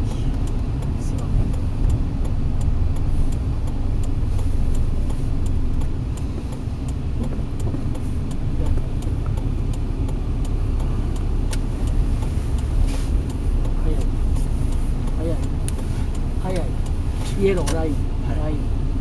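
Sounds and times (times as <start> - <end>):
car engine and road rumble: 0.0 - 19.0
light regular ticking: 0.0 - 19.0.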